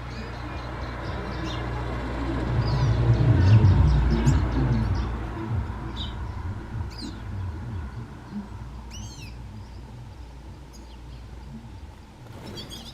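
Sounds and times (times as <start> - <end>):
canaries chirping: 0.0 - 12.9
steady low rumble: 0.0 - 12.9.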